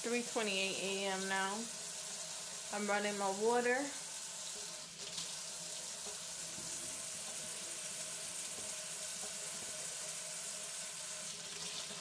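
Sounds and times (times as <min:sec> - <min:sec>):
faucet running into metal sink: 0:01.1 - 0:12.0.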